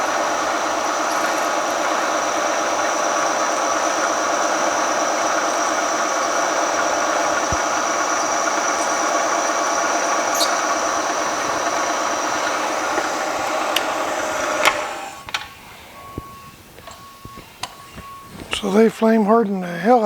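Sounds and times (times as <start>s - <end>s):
high-pitched whine: 0.0s - 20.0s
milling machine drilling steel: 0.0s - 20.0s.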